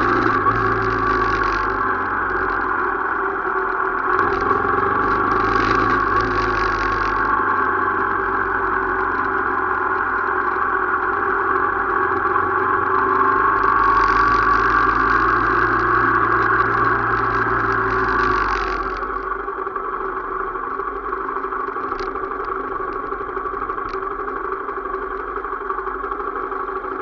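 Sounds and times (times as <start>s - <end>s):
motorcycle engine drone: 0.0s - 27.0s.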